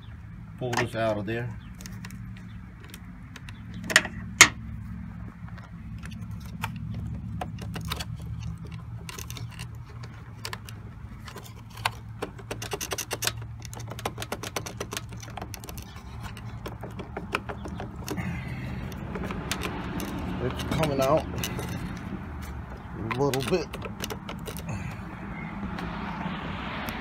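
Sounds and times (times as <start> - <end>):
plastic clicks and rattles: 1.6 - 4.6, 5.5 - 24.7.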